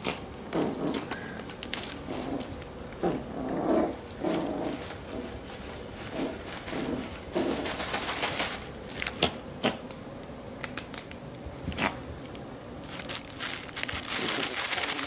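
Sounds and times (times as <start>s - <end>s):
bedding crinkling and rustling: 0.0s - 3.0s, 3.9s - 15.0s.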